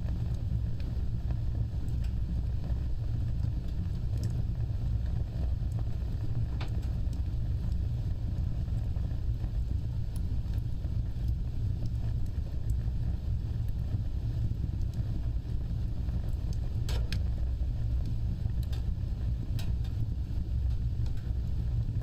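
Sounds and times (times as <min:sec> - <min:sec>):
fire crackles and pops: 0:00.0 - 0:22.0
roar of flames: 0:00.0 - 0:22.0.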